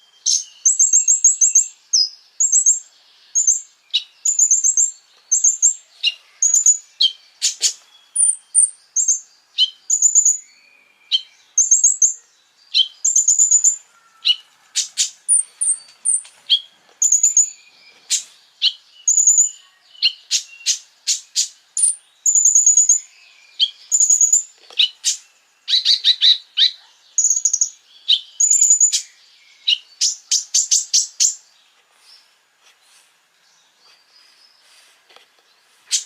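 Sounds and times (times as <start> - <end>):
bird chirping and whistling: 0.2 - 2.8, 3.4 - 31.4.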